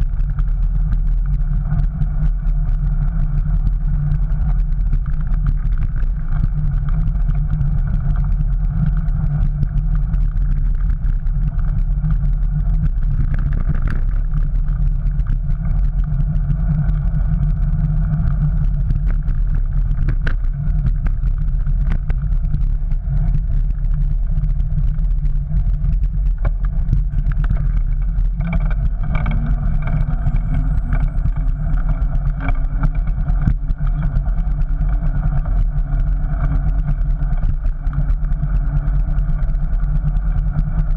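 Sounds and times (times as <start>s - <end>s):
bicycle road vibration: 0.0s - 40.9s
wind rumble: 0.0s - 40.9s.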